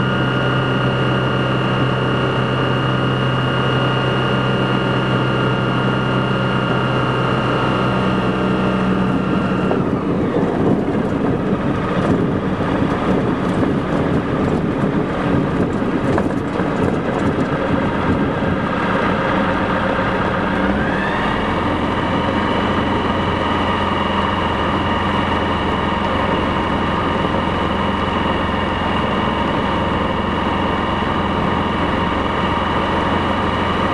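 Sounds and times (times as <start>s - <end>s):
aircraft engine droning: 0.0s - 33.9s.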